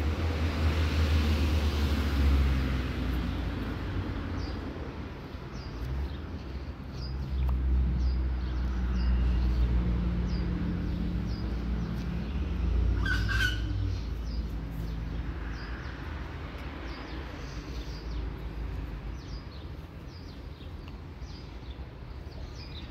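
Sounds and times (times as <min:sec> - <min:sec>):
small songbirds chirping: 0:03.0 - 0:22.9.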